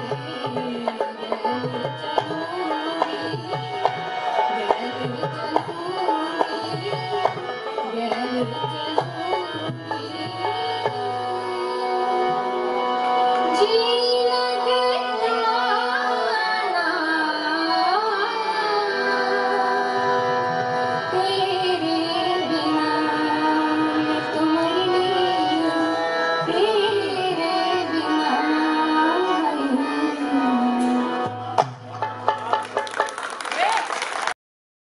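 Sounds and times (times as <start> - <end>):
woman singing folk song: 0.0 - 3.8, 4.5 - 12.5, 13.5 - 20.0, 21.1 - 31.2
instrumental accompaniment: 0.0 - 33.5.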